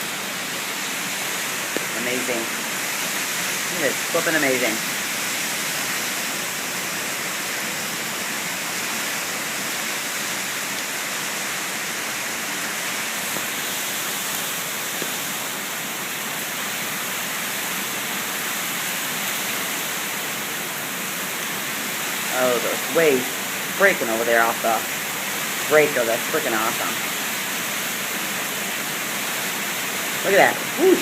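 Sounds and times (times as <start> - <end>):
wind-driven rain: 0.0 - 31.0.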